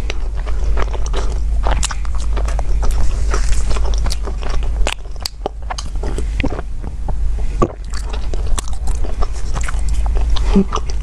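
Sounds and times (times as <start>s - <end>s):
chewing bread: 0.0s - 6.9s, 7.6s - 11.0s.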